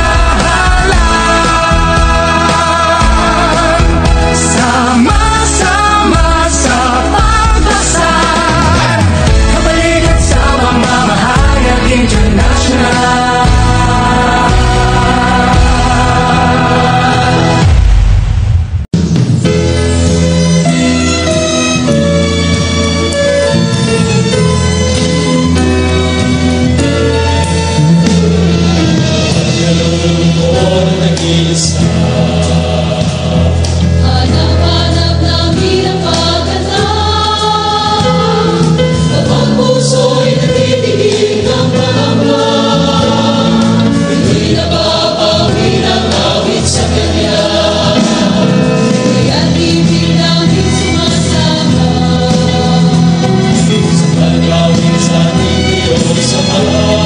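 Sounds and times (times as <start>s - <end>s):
choir singing gospel song: 0.0s - 18.2s, 28.6s - 57.0s.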